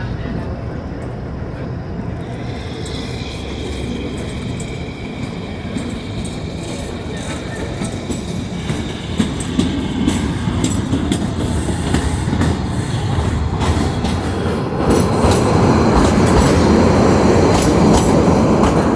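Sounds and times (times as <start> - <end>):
train rumbling: 0.0 - 18.9
wheels clacking over rail joints: 0.0 - 18.9.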